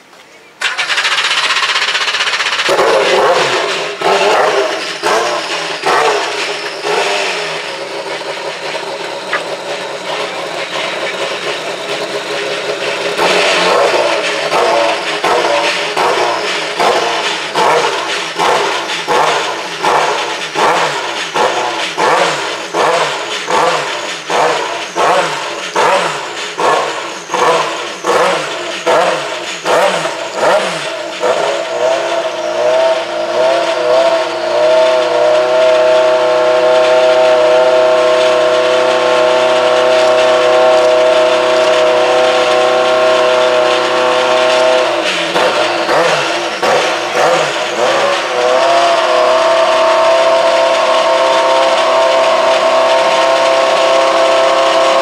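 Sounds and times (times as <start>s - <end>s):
race car engine revving: 0.6s - 55.0s.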